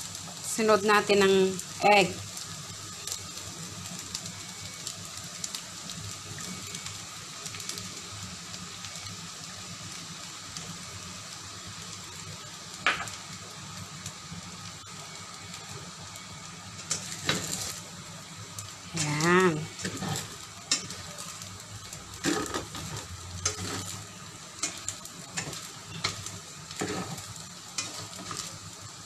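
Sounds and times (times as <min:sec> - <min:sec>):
rice sizzling in a pan: 0:00.0 - 0:29.0.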